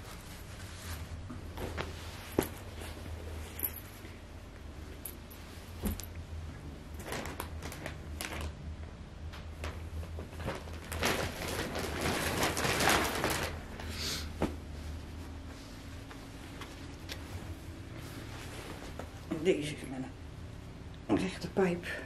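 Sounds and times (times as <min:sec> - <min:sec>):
fabric rustling: 0:00.0 - 0:08.6, 0:09.5 - 0:19.5
steady low hum: 0:00.0 - 0:22.0.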